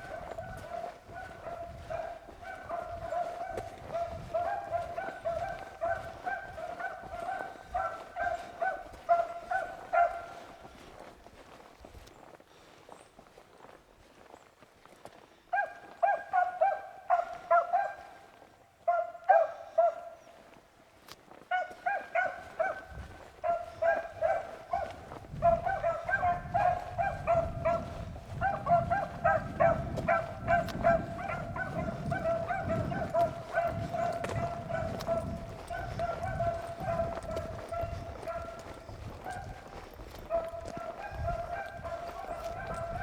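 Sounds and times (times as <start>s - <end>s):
beagles baying: 0.0s - 11.0s, 15.5s - 20.5s, 21.4s - 43.0s.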